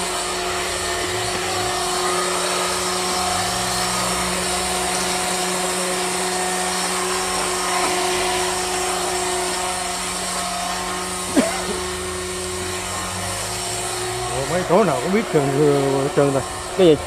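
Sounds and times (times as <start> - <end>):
electric pump whirring: 0.0 - 17.0.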